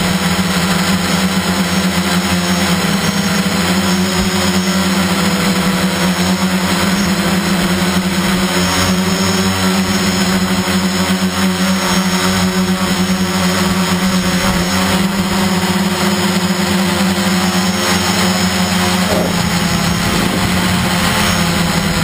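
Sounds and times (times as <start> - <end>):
model aircraft motor humming: 0.0 - 22.0.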